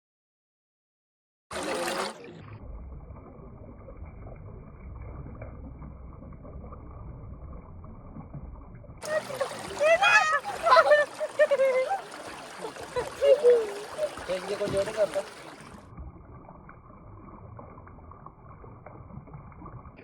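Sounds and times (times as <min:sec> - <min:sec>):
muffled rumble of water: 0:01.5 - 0:20.0.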